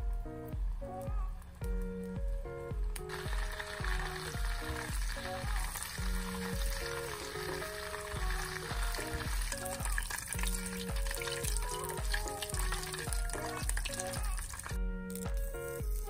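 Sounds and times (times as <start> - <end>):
music with steady bass beat: 0.0 - 16.0
pan sizzling: 0.0 - 16.0.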